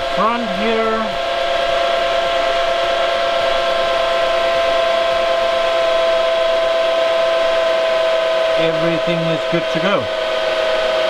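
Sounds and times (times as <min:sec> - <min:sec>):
server cooling fans whirring: 0:00.0 - 0:11.0
whining tones: 0:00.0 - 0:11.0.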